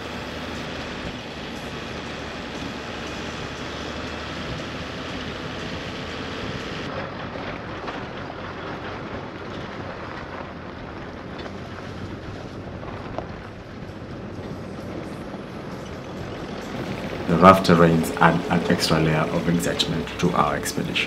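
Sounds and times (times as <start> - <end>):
vehicle engine and tyres rumbling: 0.0 - 21.0.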